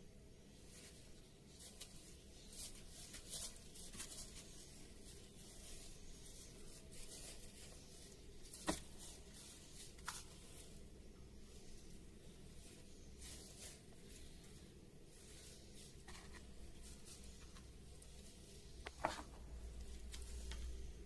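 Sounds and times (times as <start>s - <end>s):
faint rustling: 0.4s - 21.0s.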